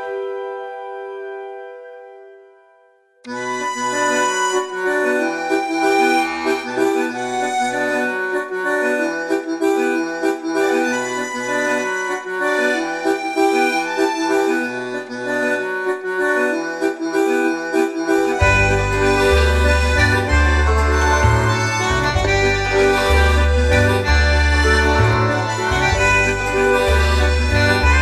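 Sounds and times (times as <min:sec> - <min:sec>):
instrumental music with bass line: 0:03.2 - 0:28.0.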